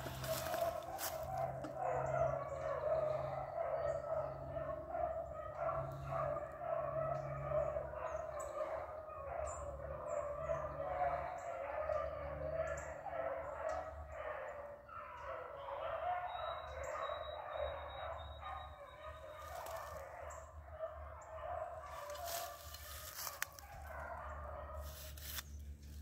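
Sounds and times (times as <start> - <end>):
hounds baying: 0.0 - 25.1.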